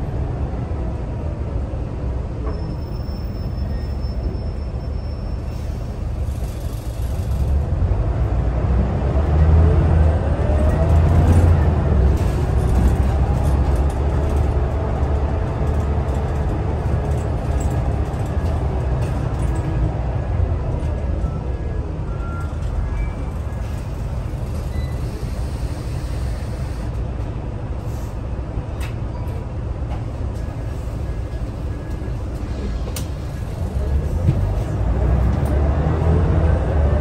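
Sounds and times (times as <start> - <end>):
bus engine rumble: 0.0 - 37.0.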